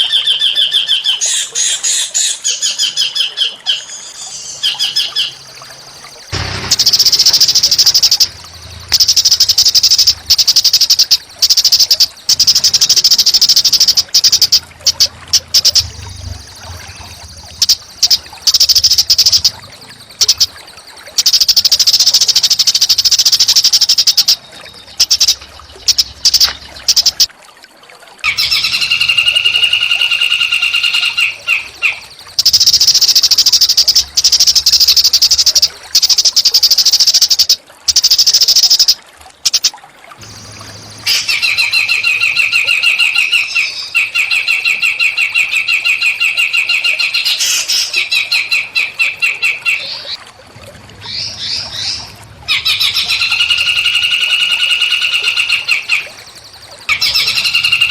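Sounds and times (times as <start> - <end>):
low pulsing bird call: 0.0 - 27.3, 28.3 - 36.4, 40.2 - 57.9
songbirds singing high trills: 0.0 - 27.3, 28.3 - 38.1, 38.8 - 50.2, 51.0 - 57.9.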